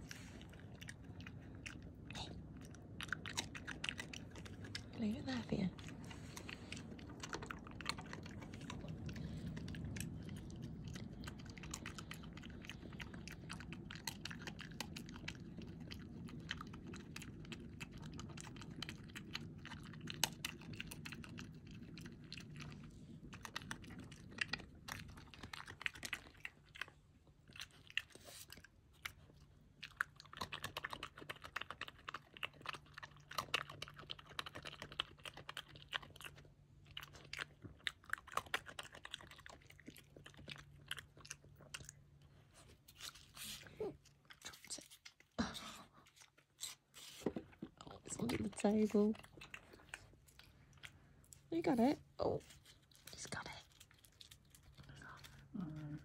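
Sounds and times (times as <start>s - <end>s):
badger crunching food: 0.0s - 56.0s.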